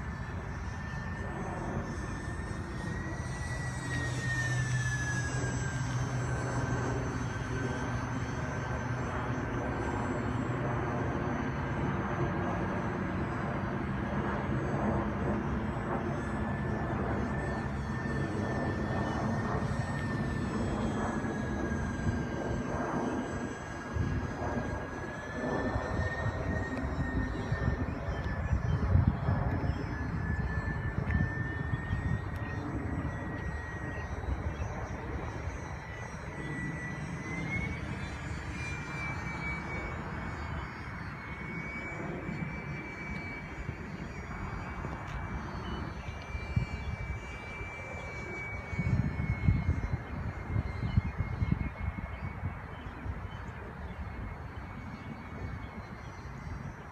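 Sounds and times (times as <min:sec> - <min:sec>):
model airplane engines whining: 0:00.0 - 0:56.9.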